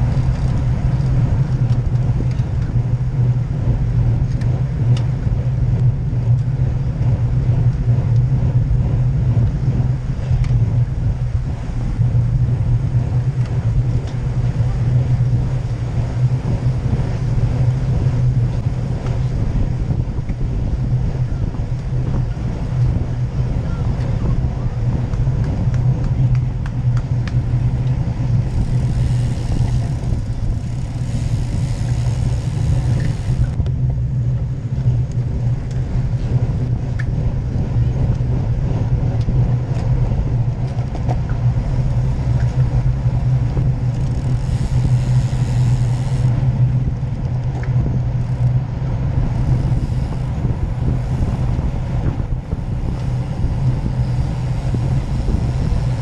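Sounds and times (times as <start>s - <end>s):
bicycle tyre rumble: 0.0s - 56.0s
wind noise: 0.0s - 56.0s.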